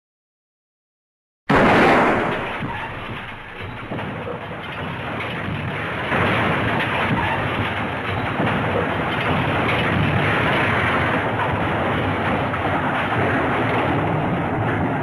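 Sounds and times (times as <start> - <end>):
crash rumbling and crackling: 1.5 - 15.0.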